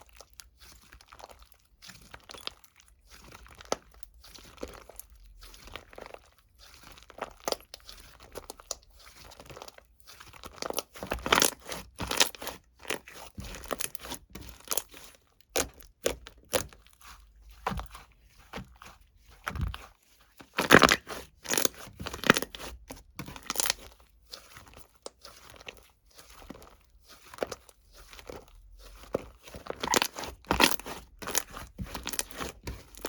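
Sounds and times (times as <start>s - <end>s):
crunching and crinkling crackles: 0.0s - 33.0s.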